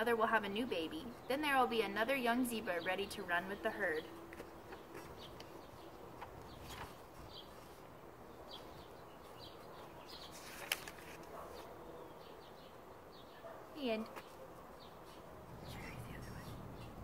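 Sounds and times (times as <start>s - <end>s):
outdoor background noise: 0.0s - 17.0s
small birds chirping: 0.0s - 17.0s.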